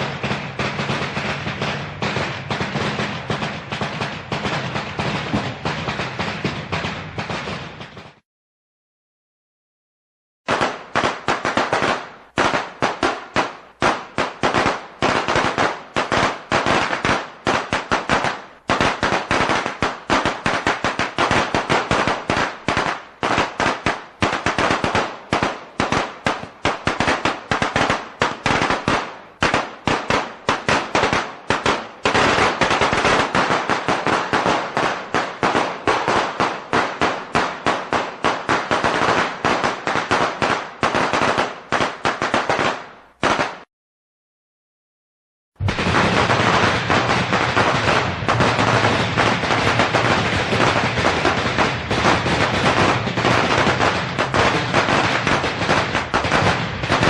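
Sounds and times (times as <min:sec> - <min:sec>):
firecrackers cracking: 0:00.0 - 0:08.2, 0:10.5 - 0:43.7, 0:45.6 - 0:57.0.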